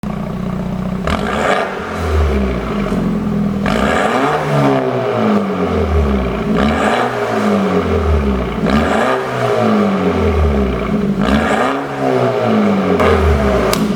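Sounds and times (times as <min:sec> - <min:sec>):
car engine idling and revving: 0:00.0 - 0:13.9.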